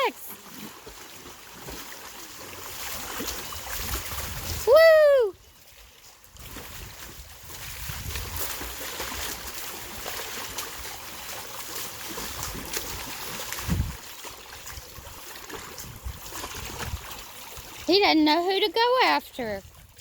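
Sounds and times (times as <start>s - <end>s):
pool water splashing: 0.0s - 20.0s.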